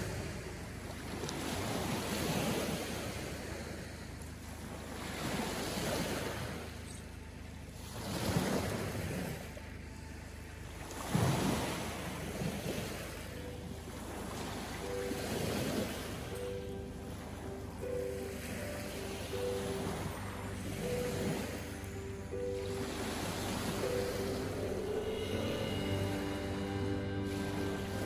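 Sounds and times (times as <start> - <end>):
small waves washing on shore: 0.0 - 28.0.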